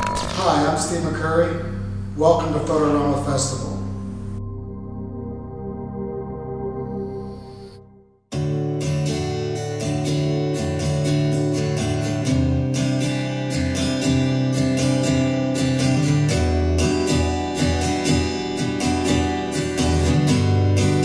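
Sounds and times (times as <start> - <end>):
strummed guitar chords: 0.0 - 5.5, 8.3 - 21.0.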